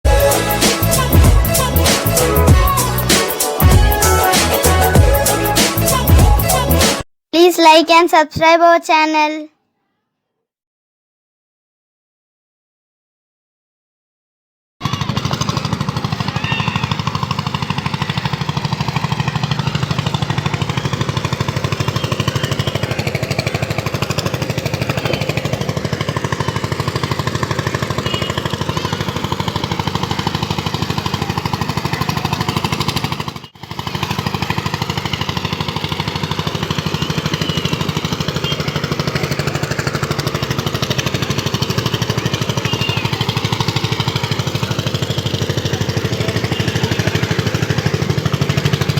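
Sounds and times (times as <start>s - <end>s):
engine running: 0.1s - 7.0s, 14.8s - 48.9s.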